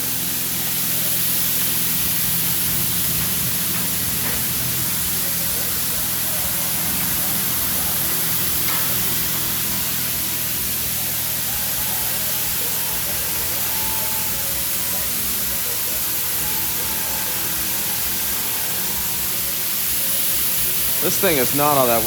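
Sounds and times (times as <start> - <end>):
liquid spraying on car body: 0.0 - 22.0.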